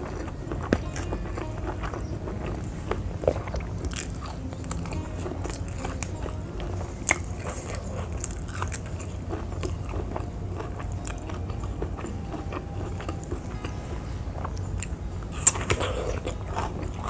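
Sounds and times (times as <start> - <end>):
chewing raw vegetables: 0.0 - 17.0.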